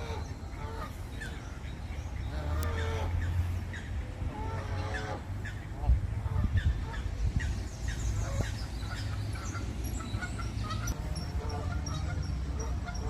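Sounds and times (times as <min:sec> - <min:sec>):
geese calling: 0:00.0 - 0:13.0
songbirds chirping: 0:00.0 - 0:13.0.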